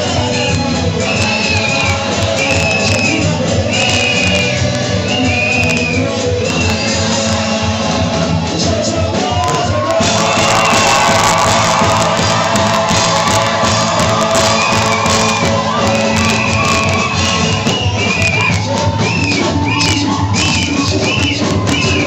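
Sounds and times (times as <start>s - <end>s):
congregation singing and shouting: 0.0s - 22.0s
live praise music: 0.0s - 22.0s.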